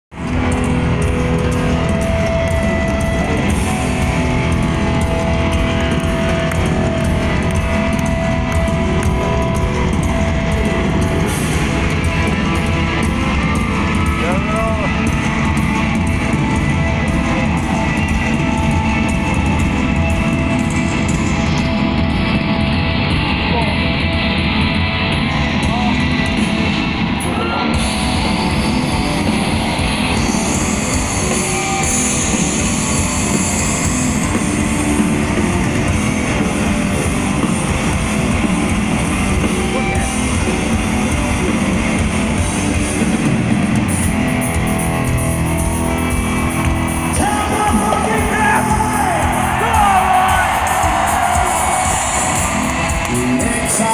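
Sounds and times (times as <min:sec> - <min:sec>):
distorted electric guitars: 0:00.1 - 0:53.9
drum kit: 0:00.1 - 0:53.9
hard rock band playing live: 0:00.1 - 0:53.9.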